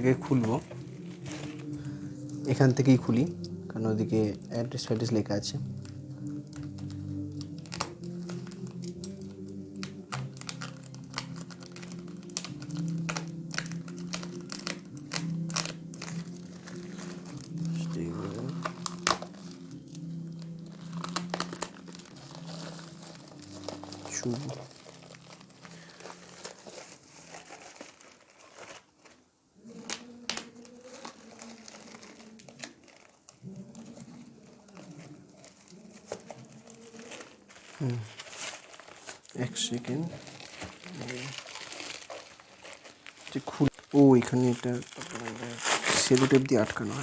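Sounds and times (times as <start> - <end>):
packaging being torn and crinkled: 0.0 - 47.0.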